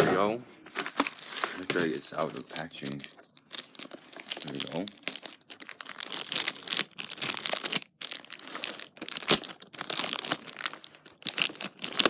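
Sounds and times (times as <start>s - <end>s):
plastic packaging crinkling: 0.7s - 12.0s.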